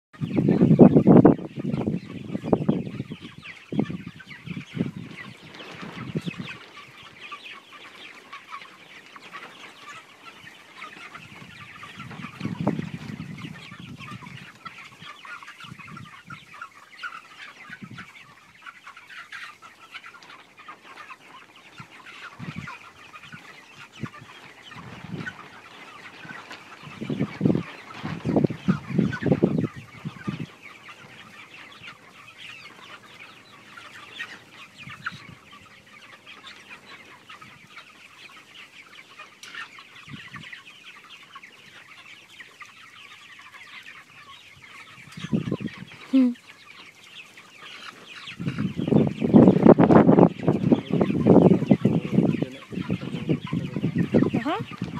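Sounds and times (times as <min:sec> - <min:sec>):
chickens chattering: 0:00.2 - 0:54.9.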